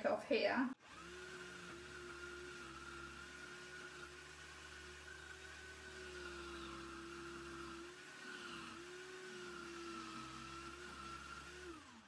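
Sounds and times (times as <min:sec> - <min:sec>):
chisel cutting spinning wood: 0:00.8 - 0:12.0
wood lathe motor whining: 0:00.8 - 0:12.0.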